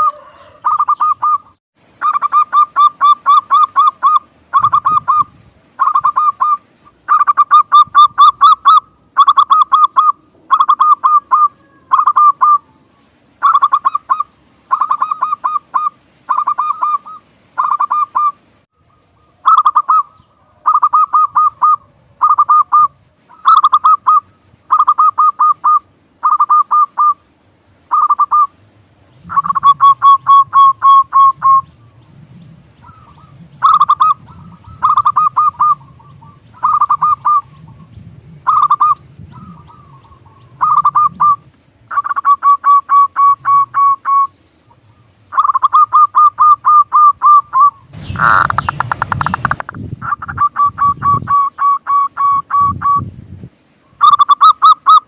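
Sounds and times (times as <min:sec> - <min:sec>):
doves cooing: 0:00.0 - 0:27.3, 0:27.9 - 0:28.6, 0:29.3 - 0:53.0.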